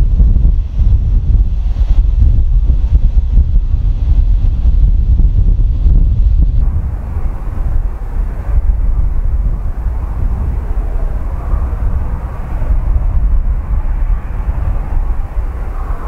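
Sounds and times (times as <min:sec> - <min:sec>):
jet engines humming: 0:00.0 - 0:16.0
wind rumble on microphone: 0:00.0 - 0:16.0.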